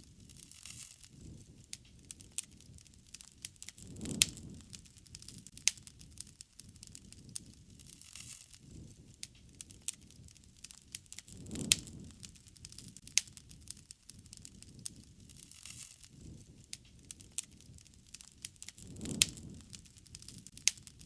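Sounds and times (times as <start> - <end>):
low rush of flame: 0.0 - 21.0
wood fire crackling and popping: 0.0 - 21.0.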